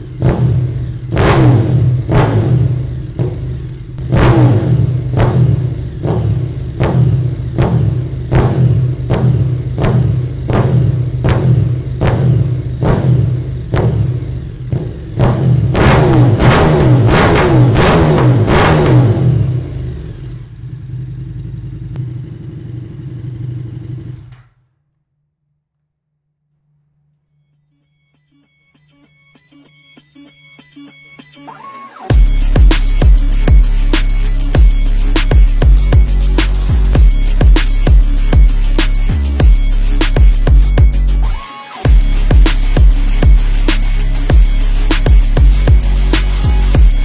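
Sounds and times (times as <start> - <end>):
motorcycle engine revving: 0.0 - 24.7, 32.1 - 47.0.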